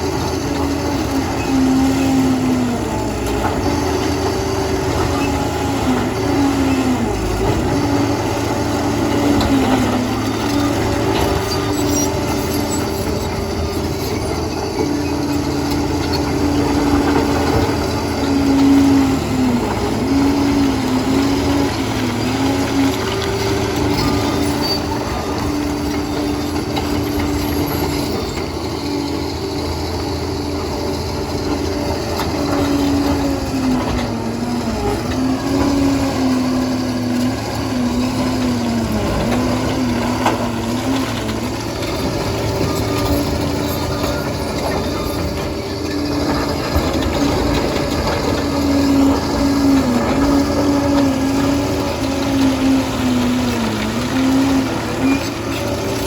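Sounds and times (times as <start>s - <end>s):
bulldozer diesel engine whining: 0.0s - 56.0s.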